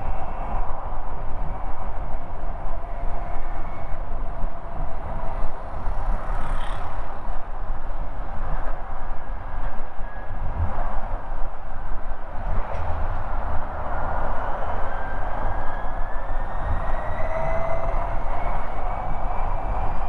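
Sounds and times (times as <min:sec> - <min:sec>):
scooter road rush: 0:00.0 - 0:20.0
wind rumble on microphone: 0:00.0 - 0:20.0.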